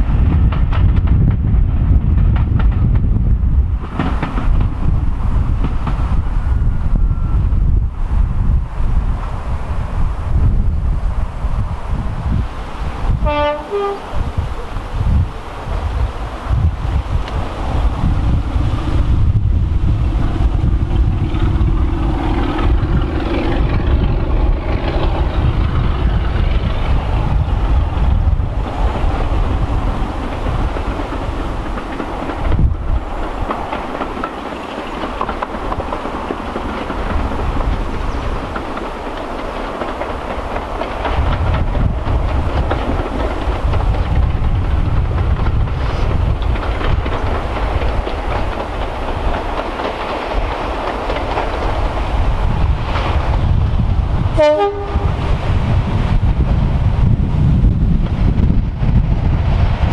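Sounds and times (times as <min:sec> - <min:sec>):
diesel locomotive engine running: 0:00.0 - 0:59.9
train wheels on rails: 0:00.0 - 0:59.9.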